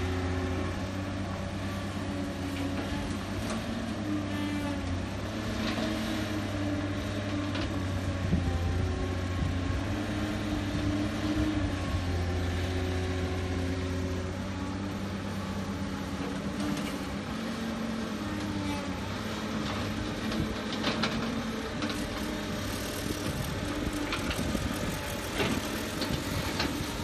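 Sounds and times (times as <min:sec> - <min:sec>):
excavator diesel engine working: 0:00.0 - 0:27.0.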